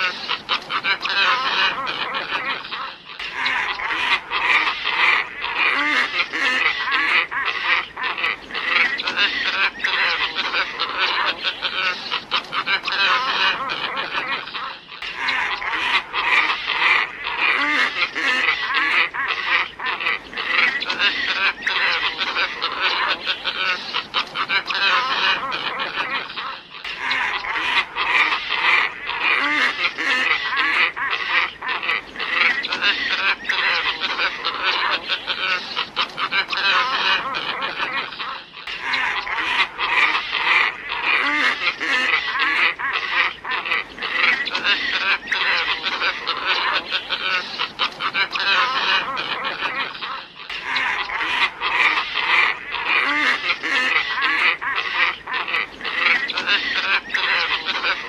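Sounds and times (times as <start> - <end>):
flock of ibises calling: 0.0 - 58.0.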